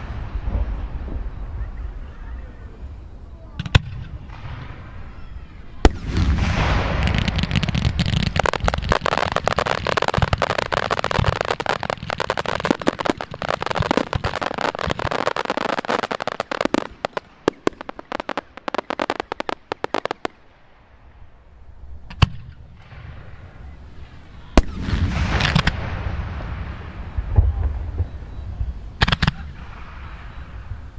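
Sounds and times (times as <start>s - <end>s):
firework bang: 0.0s - 2.1s, 3.6s - 20.4s, 22.0s - 30.9s
fireworks bursts and crackling pops: 0.0s - 30.9s.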